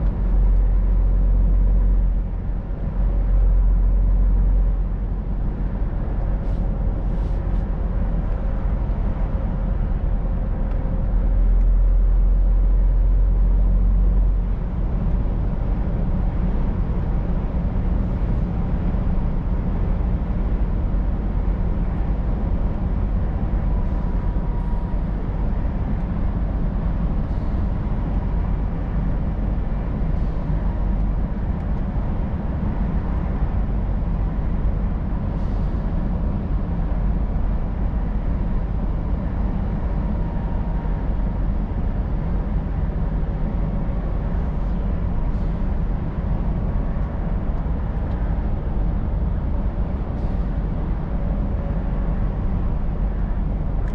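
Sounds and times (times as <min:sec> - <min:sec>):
truck engine drone: 0:00.0 - 0:53.9.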